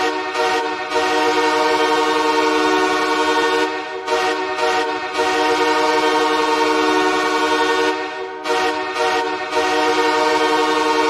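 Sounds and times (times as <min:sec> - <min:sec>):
hockey goal horn blasts: 0:00.0 - 0:11.0.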